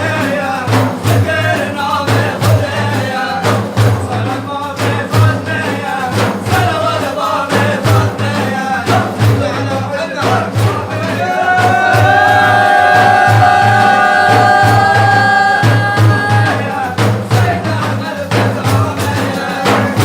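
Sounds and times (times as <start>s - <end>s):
steady drum beat: 0.0s - 20.0s.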